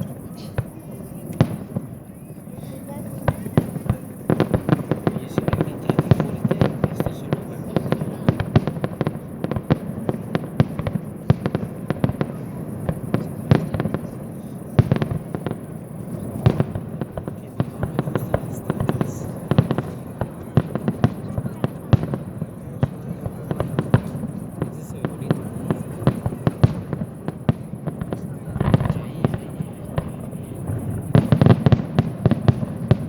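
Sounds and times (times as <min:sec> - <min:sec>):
fireworks bangs: 0:00.0 - 0:33.0.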